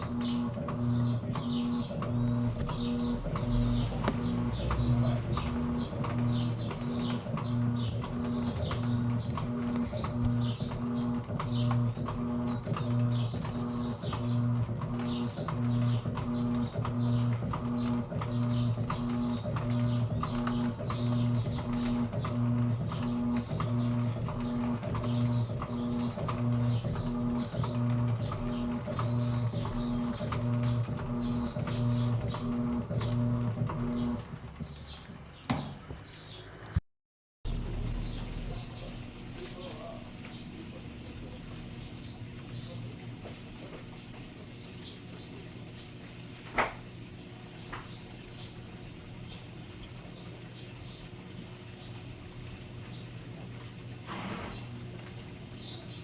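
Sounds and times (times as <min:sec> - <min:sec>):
washing machine motor humming: 0:00.0 - 0:36.8, 0:37.5 - 0:56.0.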